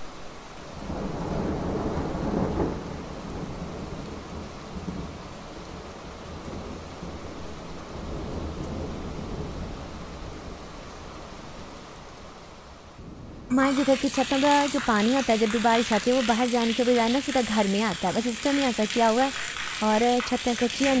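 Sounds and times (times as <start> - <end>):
rain on pavement: 0.0 - 21.0.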